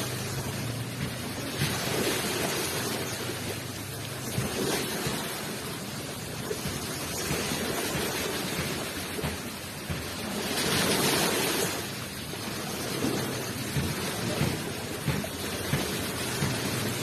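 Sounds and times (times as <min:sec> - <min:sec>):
ocean waves rushing ashore: 0:00.0 - 0:17.0.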